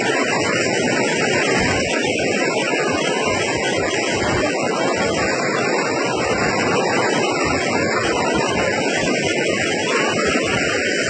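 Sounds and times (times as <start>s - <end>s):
car tyres churning water: 0.0s - 11.0s.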